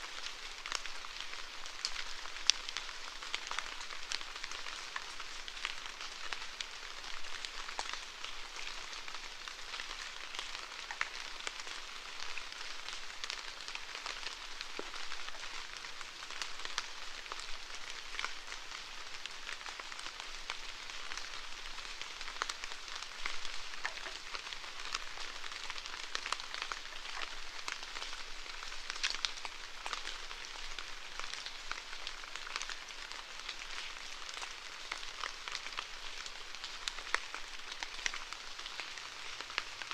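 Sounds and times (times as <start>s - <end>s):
steady rain hissing: 0.0s - 39.9s
raindrops ticking: 0.2s - 39.9s.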